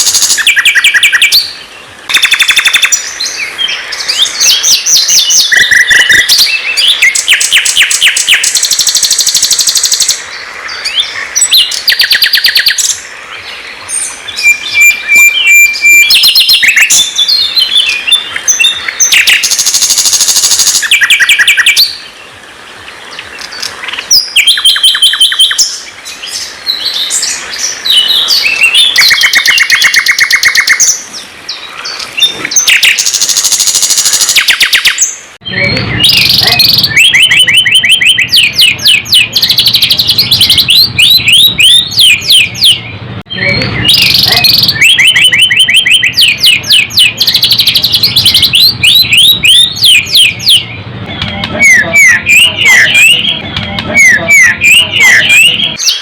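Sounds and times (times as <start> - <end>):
songbirds trilling and whistling: 0.0 - 56.0.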